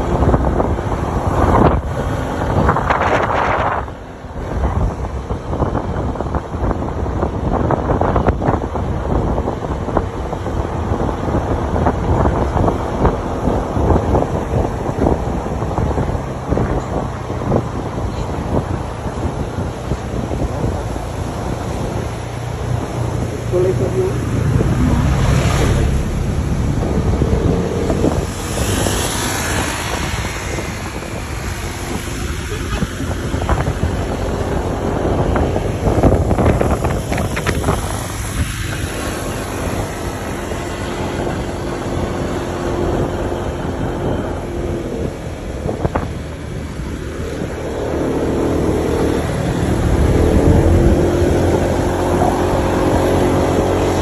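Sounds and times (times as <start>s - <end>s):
road noise: 0.0s - 54.0s
wind rushing over microphone: 0.0s - 54.0s
vehicle engine running: 10.8s - 54.0s.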